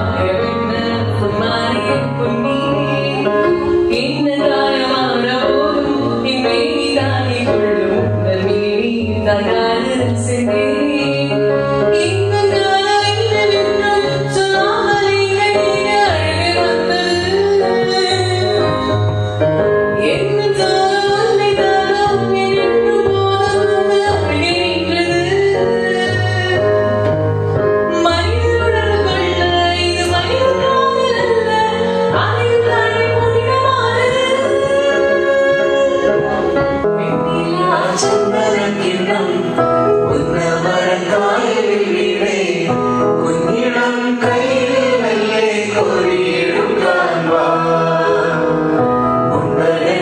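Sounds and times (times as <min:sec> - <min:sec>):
woman singing: 0:00.0 - 0:19.1, 0:19.8 - 0:27.1, 0:27.8 - 0:47.0
instrumental accompaniment: 0:00.0 - 0:50.0.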